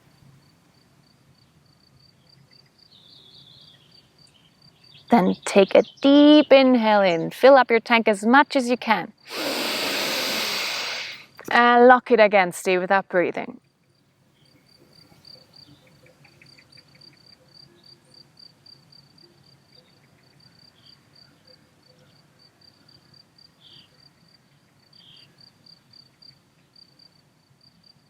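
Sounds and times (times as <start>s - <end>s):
faint cricket chirping: 0.0s - 11.6s, 13.5s - 28.0s.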